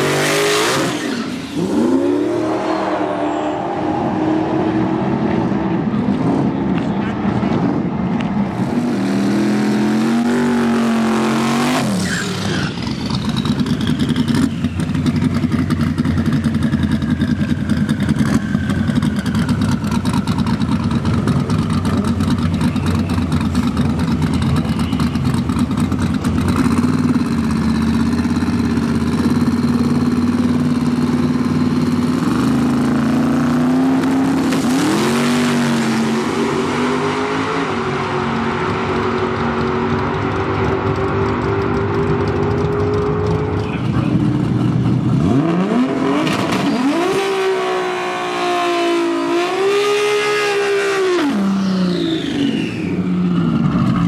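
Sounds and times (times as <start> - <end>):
drag racing car engines: 0.0 - 54.0.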